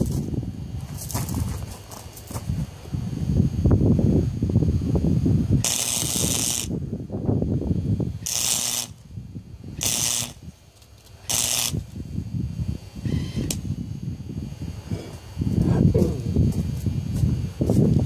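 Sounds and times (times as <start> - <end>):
welding arc crackling and hissing: 0.0 - 2.9, 5.0 - 6.8, 8.0 - 18.0.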